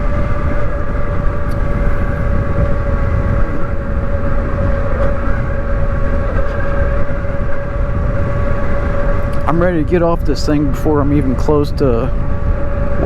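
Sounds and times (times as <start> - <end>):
electric motorcycle drive whine: 0.0 - 13.0
heavy wind rumble: 0.0 - 13.0.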